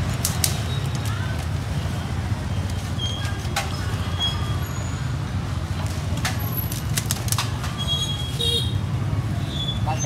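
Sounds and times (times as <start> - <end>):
street and market rumble: 0.0 - 10.0.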